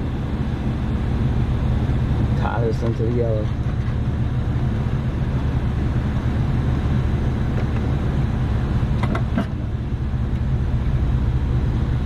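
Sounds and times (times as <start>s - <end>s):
hvac unit mechanical drone: 0.0s - 12.0s.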